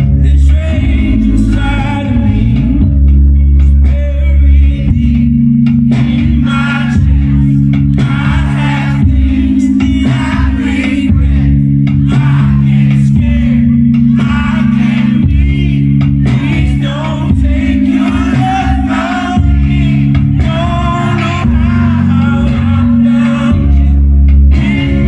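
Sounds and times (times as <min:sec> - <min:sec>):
man singing: 0:00.0 - 0:25.0
rock band playing: 0:00.0 - 0:25.0.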